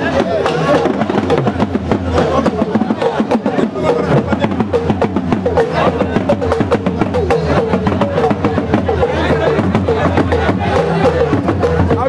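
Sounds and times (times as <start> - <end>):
drums and hand percussion: 0.0 - 12.0.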